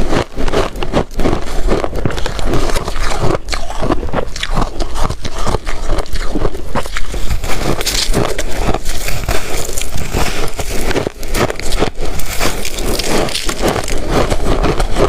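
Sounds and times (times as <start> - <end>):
shaved ice crunching: 0.0 - 15.0.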